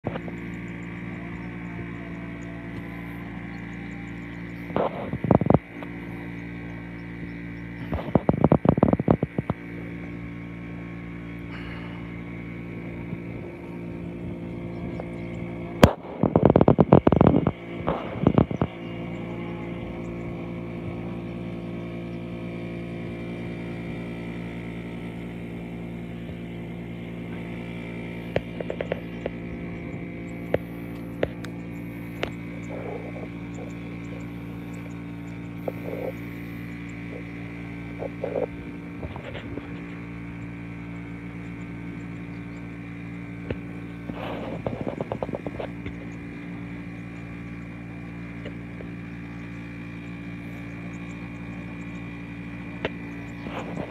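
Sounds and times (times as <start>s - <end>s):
sharp clicks and chirps: 0.0s - 11.4s, 13.2s - 53.9s
helicopter turbine drone: 0.0s - 53.9s.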